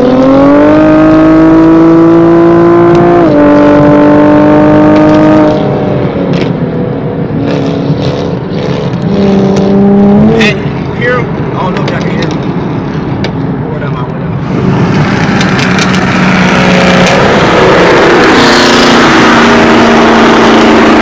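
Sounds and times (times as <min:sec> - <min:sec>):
car engine accelerating: 0:00.0 - 0:12.8, 0:13.7 - 0:21.0.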